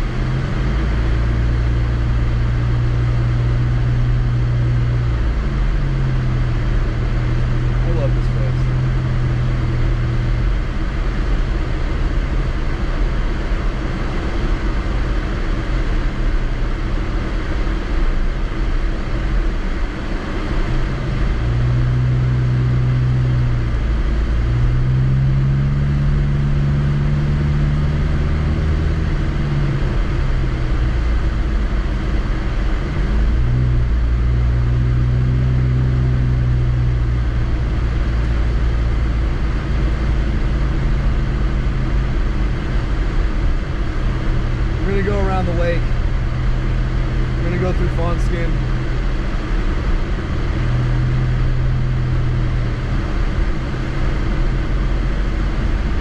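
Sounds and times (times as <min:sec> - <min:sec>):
car engine hum: 0:00.0 - 0:56.0
road noise inside car: 0:00.0 - 0:56.0.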